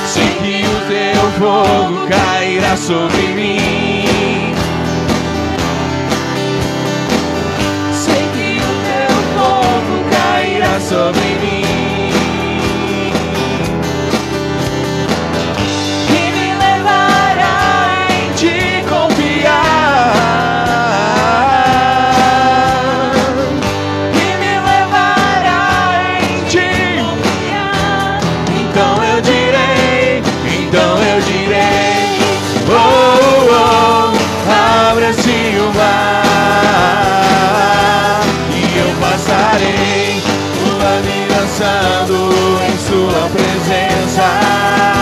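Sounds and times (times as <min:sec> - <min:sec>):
woman singing: 0:00.0 - 0:04.7, 0:07.8 - 0:13.4, 0:16.0 - 0:45.0
acoustic guitar: 0:00.0 - 0:45.0
keyboard: 0:00.0 - 0:45.0.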